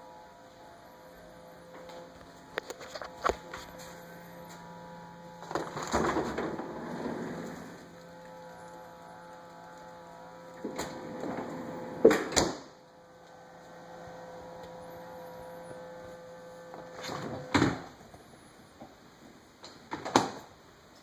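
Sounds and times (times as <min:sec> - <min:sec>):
refrigerator humming whine: 0:00.0 - 0:20.9.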